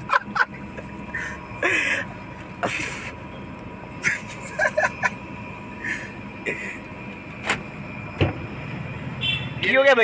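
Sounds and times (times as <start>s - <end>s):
car interior hum: 0.0s - 10.0s.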